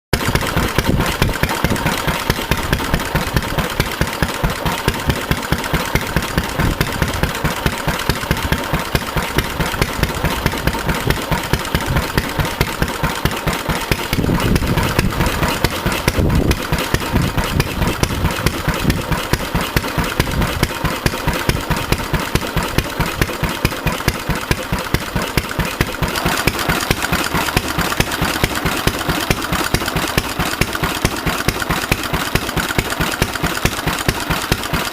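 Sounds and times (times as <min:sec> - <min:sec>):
stationary engine running: 0:00.1 - 0:34.9.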